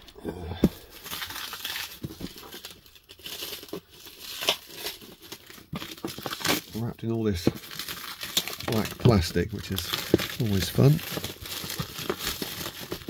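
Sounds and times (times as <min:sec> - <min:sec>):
plastic wrapping crinkling: 0:00.7 - 0:13.0.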